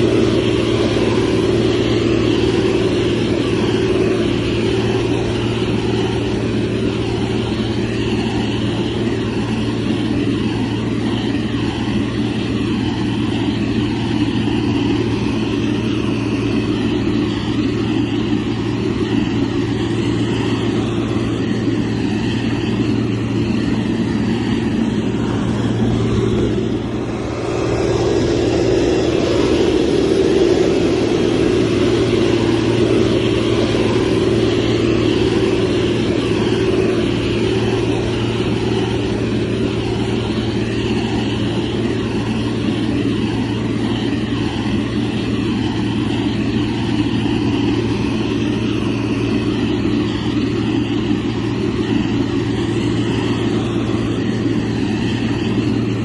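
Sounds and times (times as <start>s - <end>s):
diesel engine droning under load: 0.0s - 56.0s.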